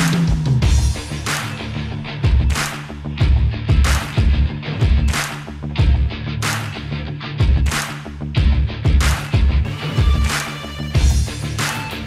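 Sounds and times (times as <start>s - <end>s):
background music with drum beat: 0.0s - 12.0s
held bass notes: 0.0s - 12.0s.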